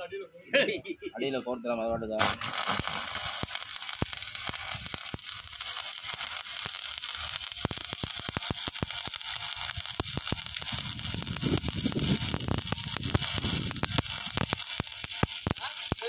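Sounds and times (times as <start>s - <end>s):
welding arc sizzling and crackling: 2.2s - 16.0s
welding spatter pops: 2.2s - 16.0s.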